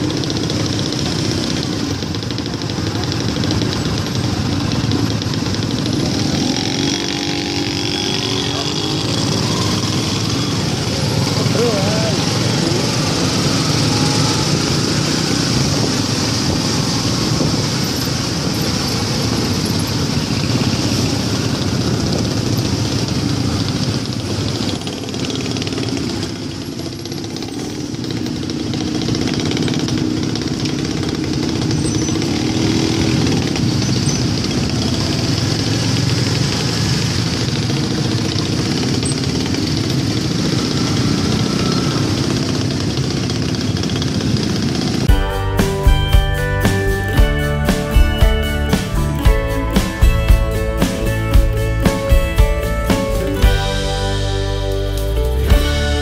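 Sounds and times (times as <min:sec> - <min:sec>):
scooter and motorcycle engines: 0:00.0 - 0:56.0.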